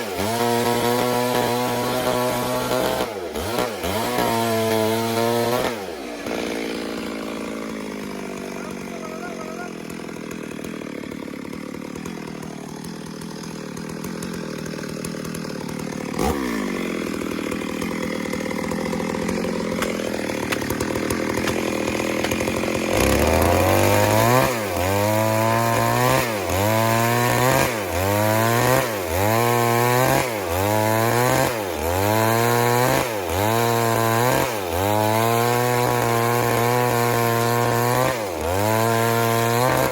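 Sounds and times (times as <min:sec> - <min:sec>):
chainsaw ripping a log: 0:00.0 - 0:39.9.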